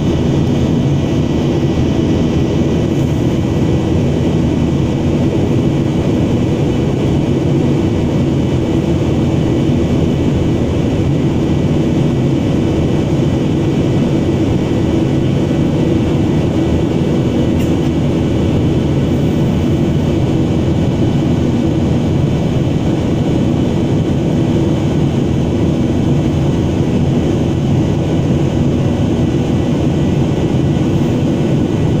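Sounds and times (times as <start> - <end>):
airliner engine drone in cabin: 0.0 - 32.0.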